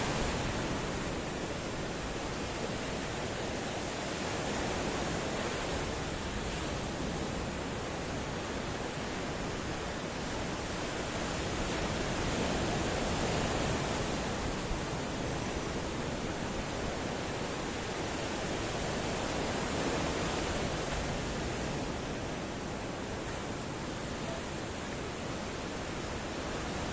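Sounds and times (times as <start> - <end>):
ocean waves washing on shore: 0.0 - 26.9.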